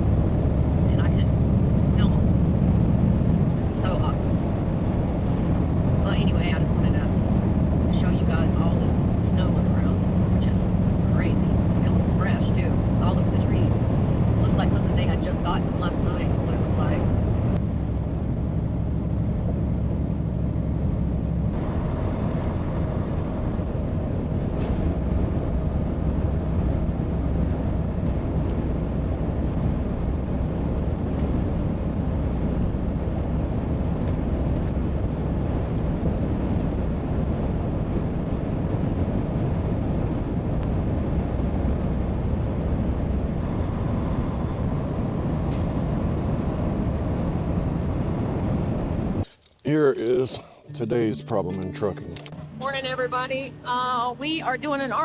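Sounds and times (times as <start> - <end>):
truck road and engine noise: 0.0 - 55.0.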